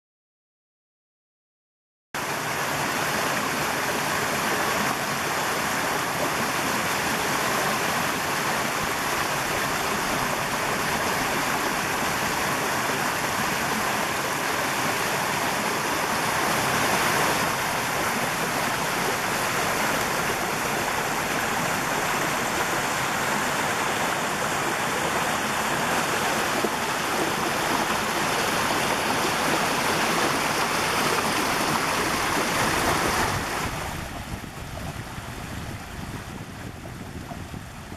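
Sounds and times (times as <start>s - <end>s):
stream rushing over rocks: 2.2s - 37.9s.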